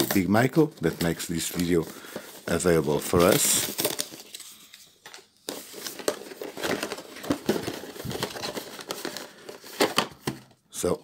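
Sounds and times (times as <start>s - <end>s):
cardboard packaging rustling: 0.0s - 10.6s.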